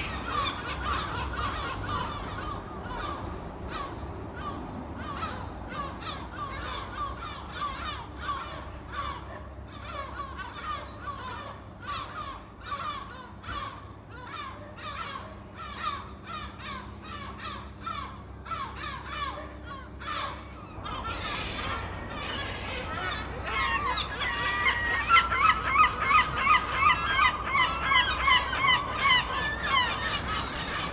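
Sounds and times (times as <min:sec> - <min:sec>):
gulls squawking: 0:00.0 - 0:30.9
low steady rumble: 0:00.0 - 0:30.9.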